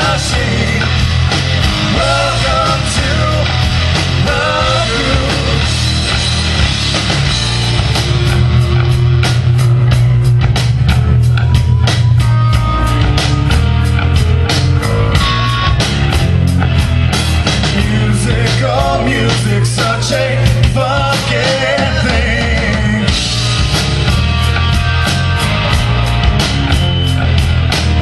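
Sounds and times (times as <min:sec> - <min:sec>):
bass guitar: 0:00.0 - 0:28.0
distorted electric guitar: 0:00.0 - 0:28.0
steady drum beat: 0:00.0 - 0:28.0.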